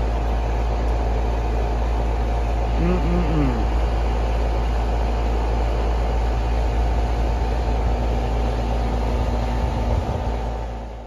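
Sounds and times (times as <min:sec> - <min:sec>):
heat pump fan and compressor hum: 0:00.0 - 0:11.0.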